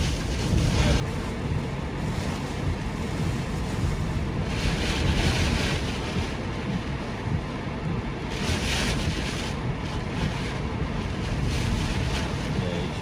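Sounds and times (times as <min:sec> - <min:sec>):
wind buffeting microphone: 0:00.0 - 0:13.0
wind roaring: 0:00.0 - 0:13.0.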